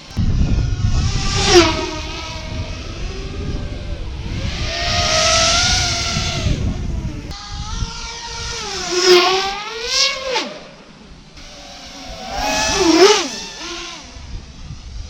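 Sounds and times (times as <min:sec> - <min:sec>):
drone motors whining: 0:00.0 - 0:15.0
wind rush: 0:00.0 - 0:15.0.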